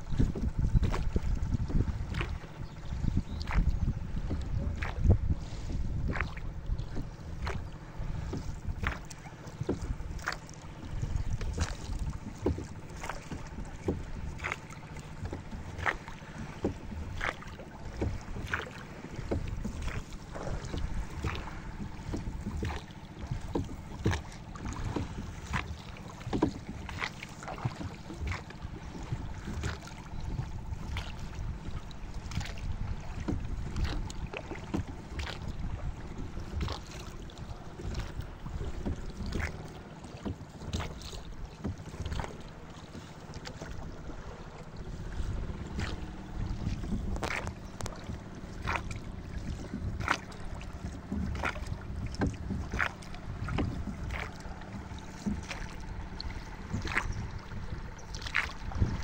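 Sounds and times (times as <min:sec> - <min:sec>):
wind rumble on microphone: 0:00.0 - 0:42.6, 0:43.5 - 0:59.0
oars knocking and splashing: 0:00.0 - 0:59.0.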